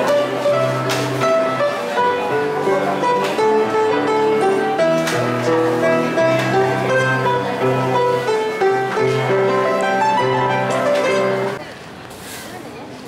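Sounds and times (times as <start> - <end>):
slow piano melody: 0.0 - 11.6.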